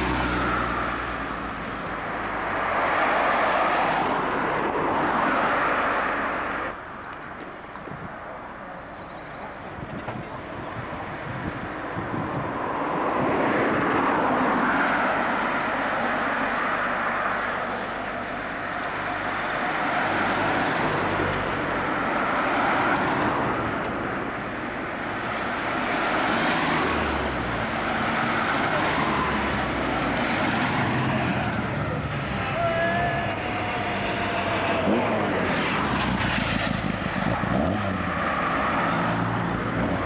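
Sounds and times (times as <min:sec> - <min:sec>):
cars driving past: 0:00.0 - 0:07.4, 0:10.2 - 0:40.0.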